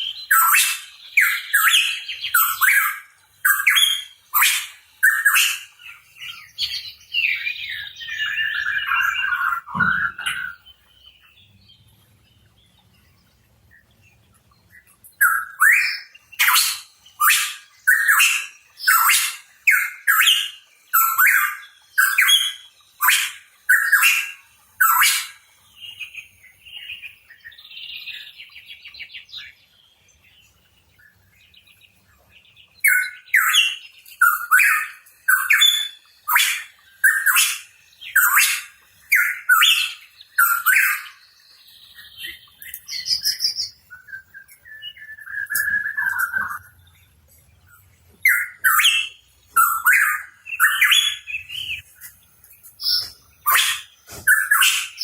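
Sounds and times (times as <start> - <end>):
bird singing upslurred notes: 0.0 - 52.0, 52.8 - 55.0.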